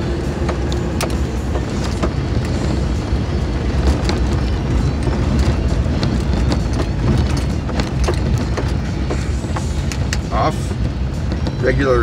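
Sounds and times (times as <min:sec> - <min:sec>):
truck engine and tyre noise: 0:00.0 - 0:12.0.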